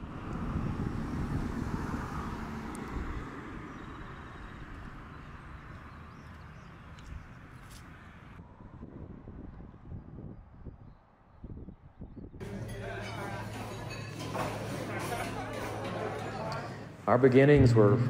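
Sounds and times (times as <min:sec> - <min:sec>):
road traffic rushing: 0:00.0 - 0:09.2, 0:12.4 - 0:18.0.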